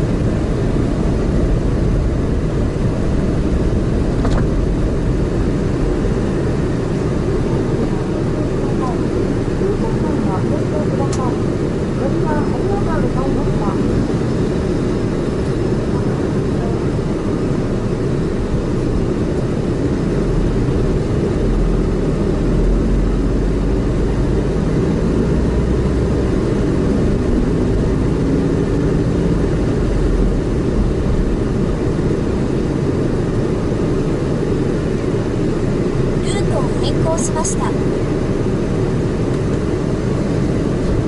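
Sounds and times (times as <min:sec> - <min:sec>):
car engine drone: 0:00.0 - 0:41.0
road noise inside car: 0:00.0 - 0:41.0.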